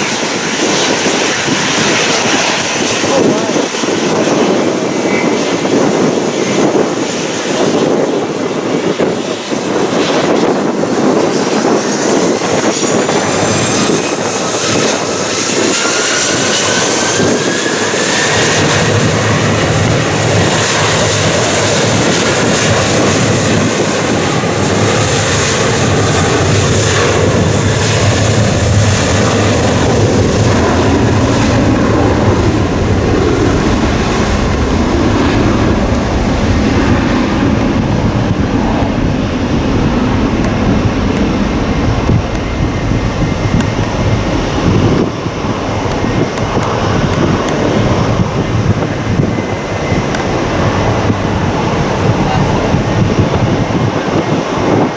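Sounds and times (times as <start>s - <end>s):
jet engines whining and rumbling: 0.0s - 54.9s.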